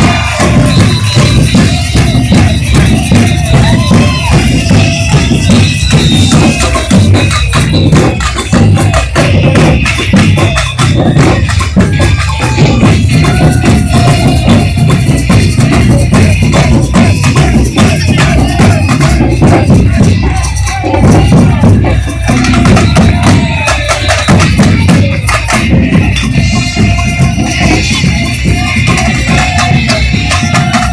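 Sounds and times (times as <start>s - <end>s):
bass drums: 0.0s - 30.9s
rattling high percussion: 0.0s - 30.9s.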